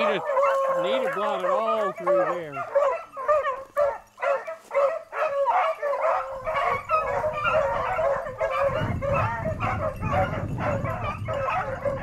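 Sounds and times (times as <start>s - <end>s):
beagles baying and yelping: 0.0s - 12.0s.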